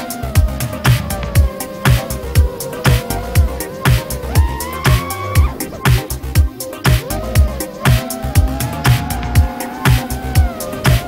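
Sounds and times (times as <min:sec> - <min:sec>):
crisp high percussion: 0:00.0 - 0:11.0
electronic dance music: 0:00.0 - 0:11.0
kick drum beat: 0:00.3 - 0:11.0.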